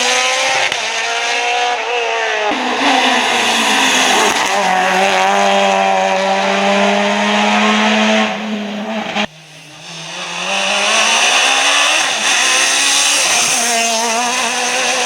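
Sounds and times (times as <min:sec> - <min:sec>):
rally car approaching: 0:00.0 - 0:15.0
rally car engine at high revs: 0:00.0 - 0:15.0.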